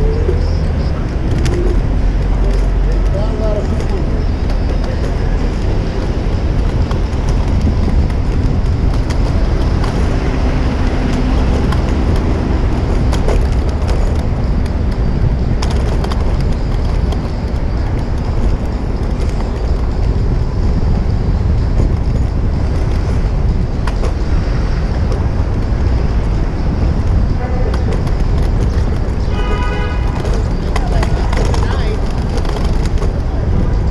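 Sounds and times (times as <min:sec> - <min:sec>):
city street traffic: 0:00.0 - 0:33.9
low rumble on microphone: 0:00.0 - 0:33.9.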